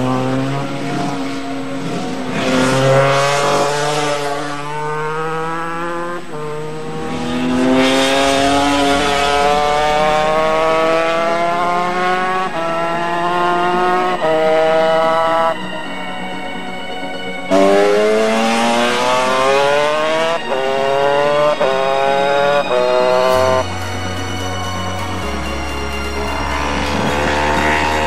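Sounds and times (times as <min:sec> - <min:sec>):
race bike engines accelerating: 0:00.0 - 0:15.5, 0:17.5 - 0:28.0.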